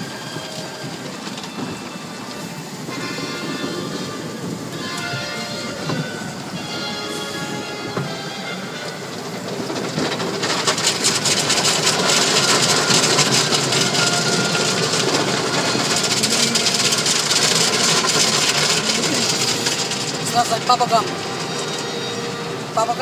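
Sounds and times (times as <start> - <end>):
car wash spray and machinery: 0.0 - 23.0.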